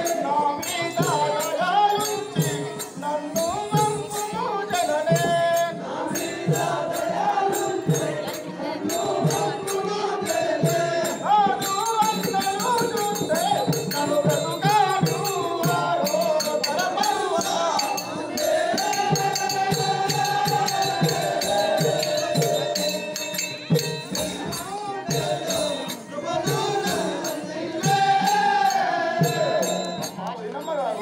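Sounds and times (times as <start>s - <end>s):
drum beat: 0.0s - 30.2s
jingling percussion: 0.0s - 31.0s.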